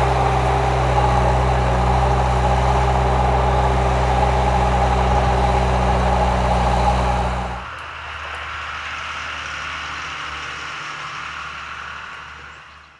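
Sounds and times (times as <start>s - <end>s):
engine humming: 0.0s - 12.9s.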